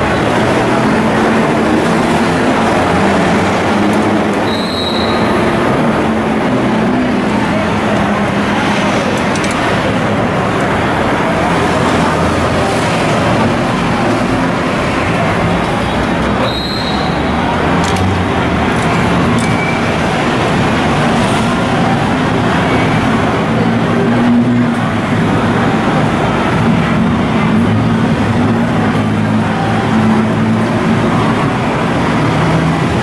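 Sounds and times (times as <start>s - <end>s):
city street traffic: 0.0s - 33.0s.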